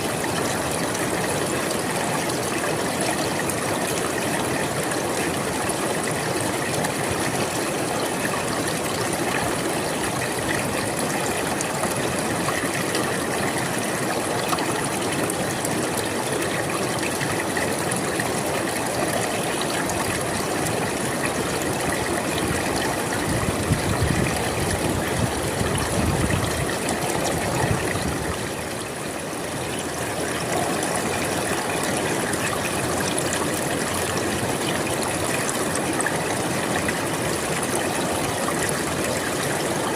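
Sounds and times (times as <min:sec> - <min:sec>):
river water rushing and gurgling: 0:00.0 - 0:39.9.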